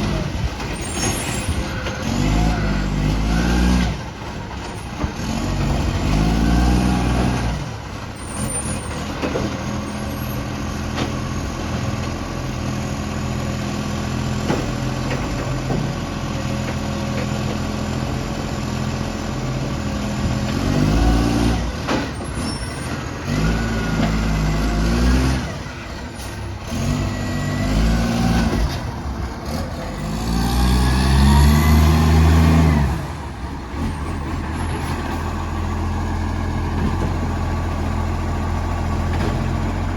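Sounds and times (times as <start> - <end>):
diesel engine idling and revving: 0.0 - 39.9.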